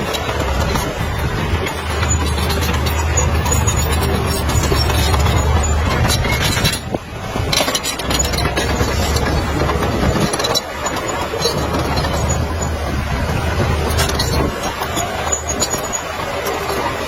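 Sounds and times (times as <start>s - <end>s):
diesel machinery engine drone: 0.0s - 17.0s
metal clanks and rattles: 0.0s - 17.0s.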